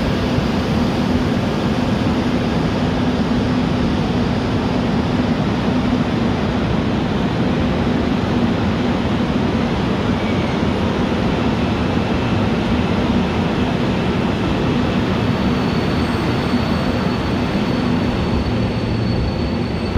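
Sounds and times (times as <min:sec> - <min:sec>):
electric train rumbling on track: 0:00.0 - 0:19.9.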